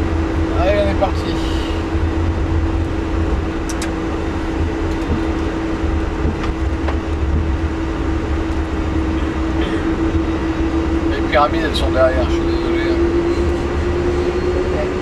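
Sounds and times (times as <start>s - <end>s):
constant hum: 0.0s - 15.0s
low cockpit rumble: 0.0s - 15.0s.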